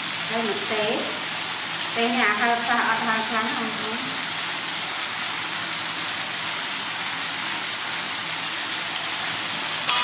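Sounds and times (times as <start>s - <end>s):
meat sizzling in a wok: 0.0s - 10.0s.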